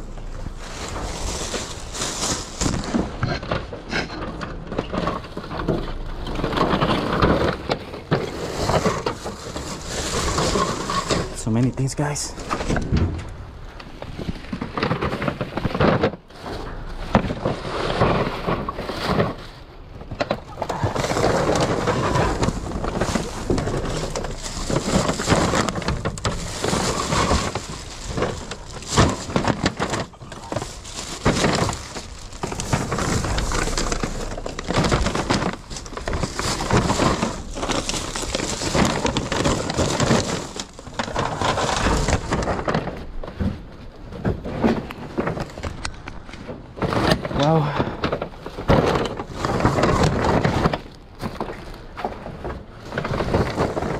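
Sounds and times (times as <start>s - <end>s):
plastic bags rustling and crinkling: 0.0s - 53.9s.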